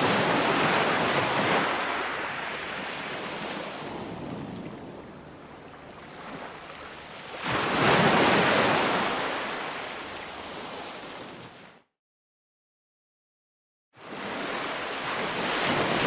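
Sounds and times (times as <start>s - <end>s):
ocean waves on a shore: 0.0s - 11.8s, 14.0s - 16.0s.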